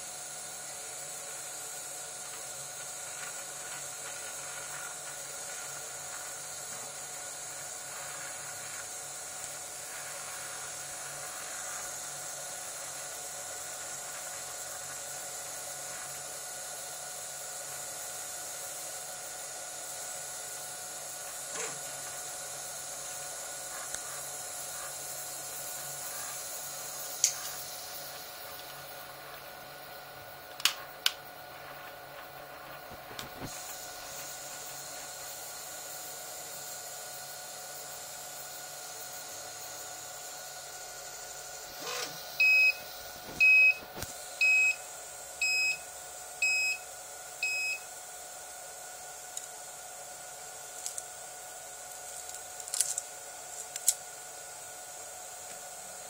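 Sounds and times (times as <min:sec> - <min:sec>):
fans hissing: 0:00.0 - 0:45.8.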